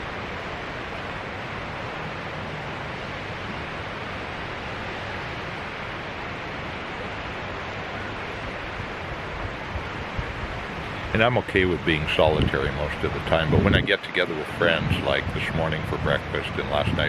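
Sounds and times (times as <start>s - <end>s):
waves on a rocky shore: 0.0s - 17.0s
wind: 0.0s - 17.0s
wind buffeting microphone: 0.0s - 17.0s.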